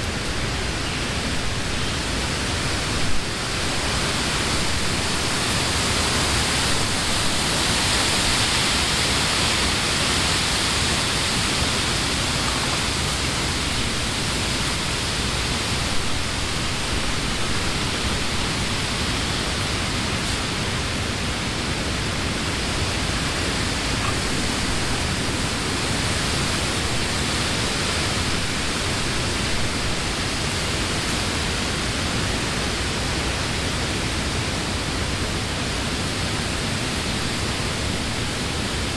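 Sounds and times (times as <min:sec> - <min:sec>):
wind through tree leaves: 0:00.0 - 0:38.9.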